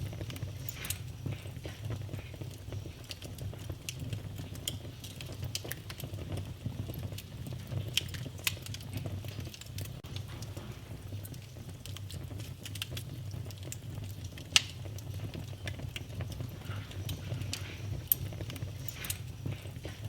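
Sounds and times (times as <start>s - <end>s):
fire crackling and popping: 0.0s - 20.0s
fire rumbling in fireplace: 0.0s - 20.0s.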